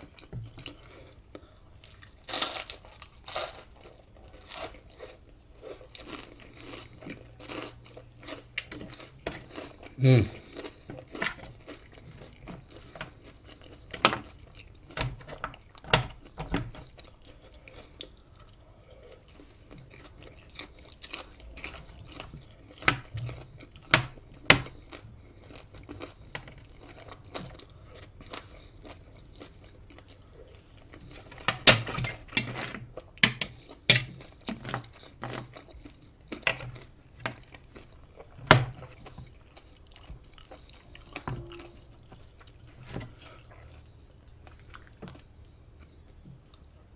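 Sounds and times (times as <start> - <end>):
chewing and biting food: 0.0 - 46.9.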